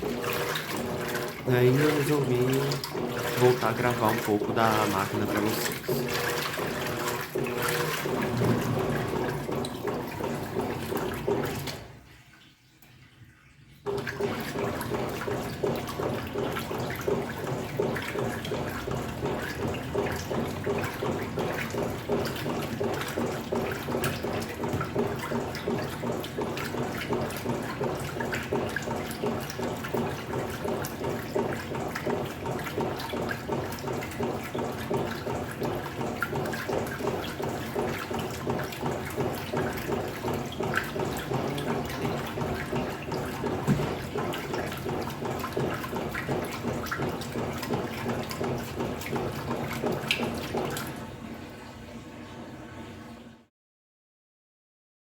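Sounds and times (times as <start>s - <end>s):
motor hum: 0.0s - 12.0s, 13.9s - 53.5s
water sloshing in washing machine: 0.0s - 53.5s.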